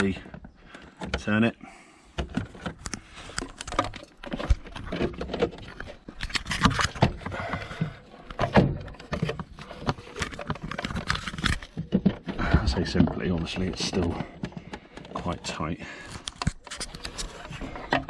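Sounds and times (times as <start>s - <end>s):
plastic clicks and scrapes: 2.2s - 18.0s.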